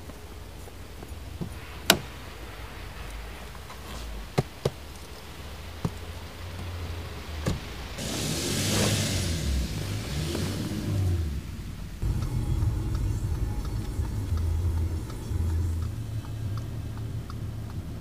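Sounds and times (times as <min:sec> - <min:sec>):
car starting and moving off: 0:00.0 - 0:18.0.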